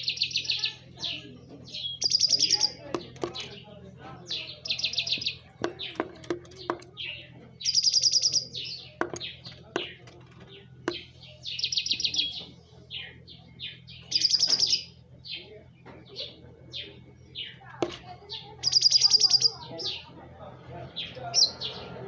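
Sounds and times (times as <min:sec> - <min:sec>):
loud rapid bird trill: 0:00.0 - 0:10.0, 0:10.6 - 0:20.2, 0:20.9 - 0:22.0
songbird chirping: 0:00.0 - 0:22.0.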